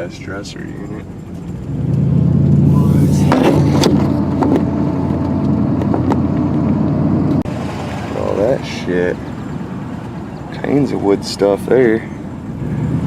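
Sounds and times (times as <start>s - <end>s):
car engine driving: 0.0s - 13.0s.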